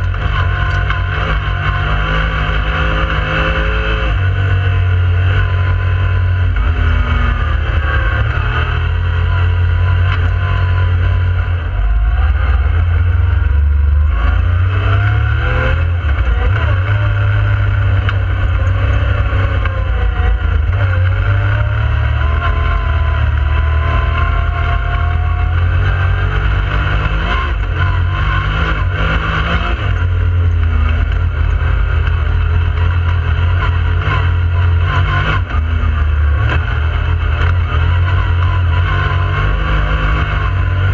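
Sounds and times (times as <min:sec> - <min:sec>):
engine running under throttle: 0:00.0 - 0:40.9.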